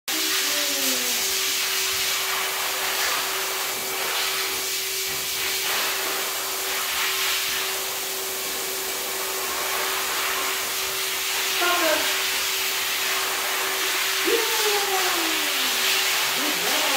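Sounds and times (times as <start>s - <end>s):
fan rushing hiss: 0.1s - 16.9s.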